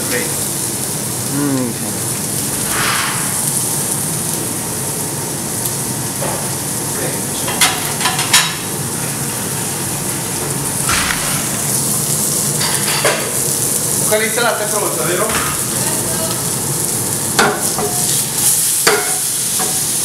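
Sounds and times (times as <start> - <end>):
potatoes sizzling in a frying pan: 0.0 - 20.0.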